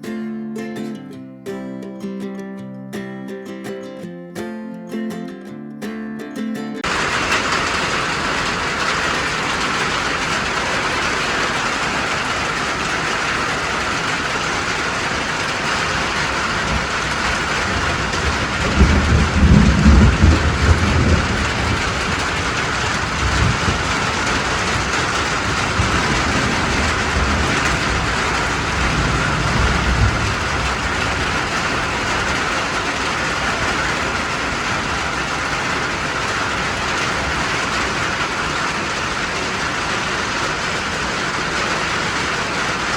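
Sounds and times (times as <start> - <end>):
low rumbles: 6.8 - 41.5
rain on a roof: 6.8 - 42.9.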